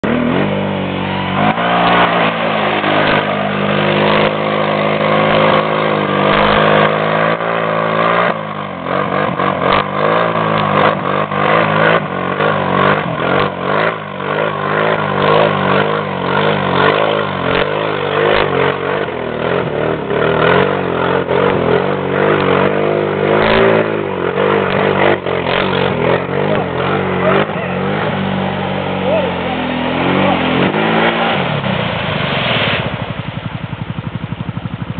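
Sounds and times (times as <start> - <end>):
atv engine revving: 0.0 - 34.9
water and mud splashing: 0.0 - 34.9.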